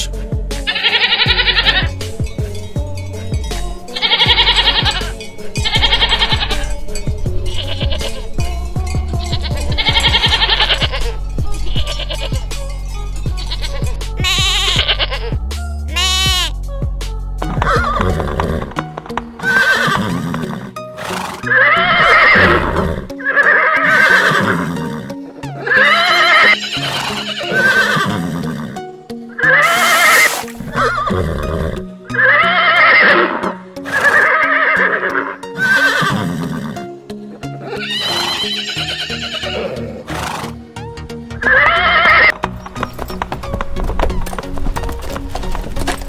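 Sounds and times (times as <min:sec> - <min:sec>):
horses neighing: 0:00.0 - 0:02.6, 0:03.3 - 0:12.5, 0:13.3 - 0:16.5, 0:17.4 - 0:46.0
background music: 0:00.0 - 0:46.0.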